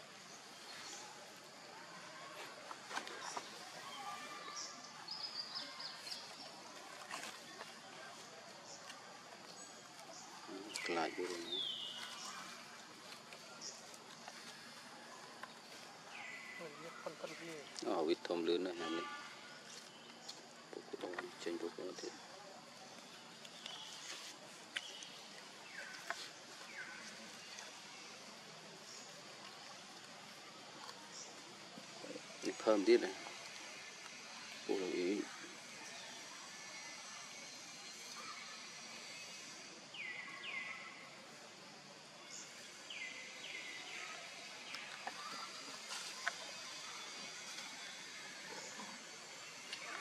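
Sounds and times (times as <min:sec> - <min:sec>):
faint steady hiss: 0:00.0 - 0:50.0.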